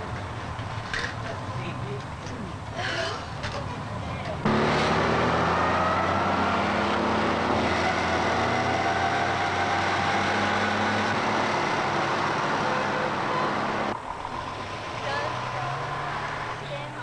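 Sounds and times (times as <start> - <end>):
motorcycle engines cruising: 0.0 - 17.0.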